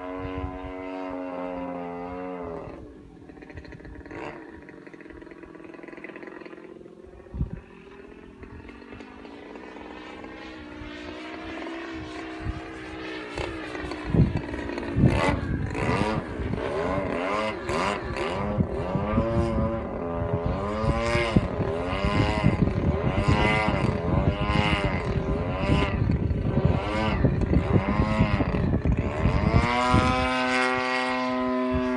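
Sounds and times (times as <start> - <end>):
wind buffeting microphone: 0.0 - 4.3, 7.1 - 31.9
model plane engine buzzing: 0.0 - 31.9.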